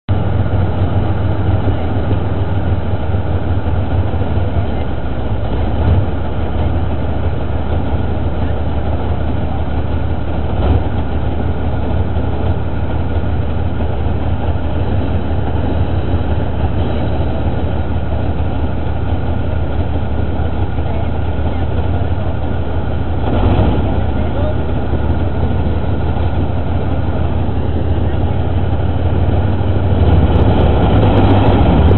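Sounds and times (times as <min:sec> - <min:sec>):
diesel tank engine rumbling: 0:00.1 - 0:31.9.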